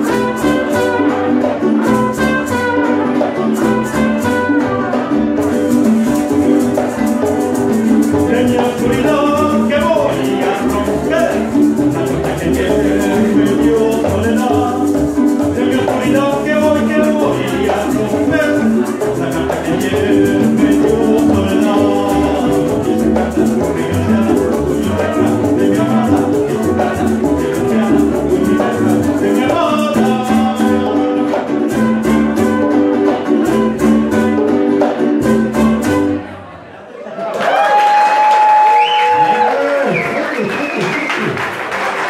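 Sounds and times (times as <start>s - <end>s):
hand percussion: 0.0s - 36.2s
shaker rhythm: 0.0s - 36.2s
upright double bass: 0.0s - 36.7s
acoustic guitar: 0.0s - 37.3s.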